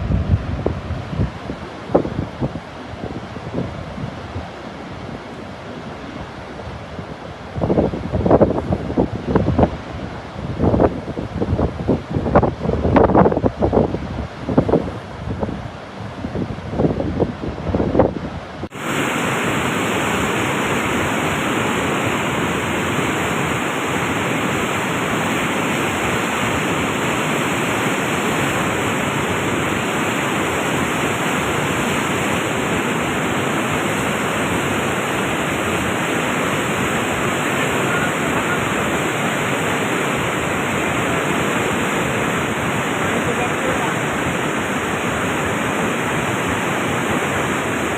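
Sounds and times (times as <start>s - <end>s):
loud rush of floodwater: 0.0s - 47.9s
wind buffeting microphone: 0.0s - 47.9s.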